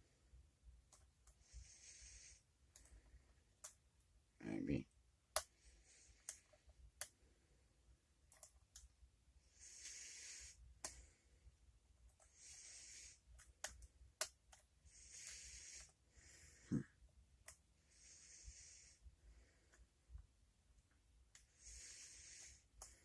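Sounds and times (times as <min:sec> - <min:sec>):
soft breaths: 0:00.0 - 0:23.0.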